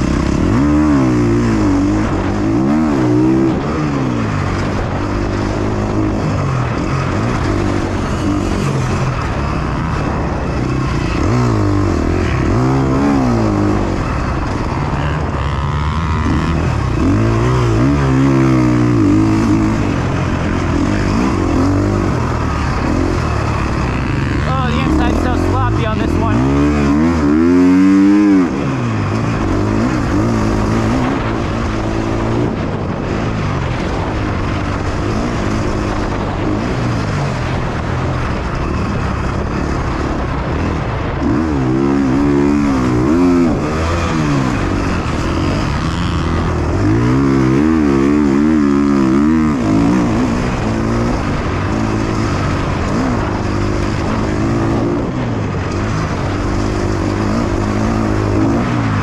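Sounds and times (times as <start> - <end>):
dirt bike engine revving: 0.0 - 59.0
wind rush: 0.0 - 59.0.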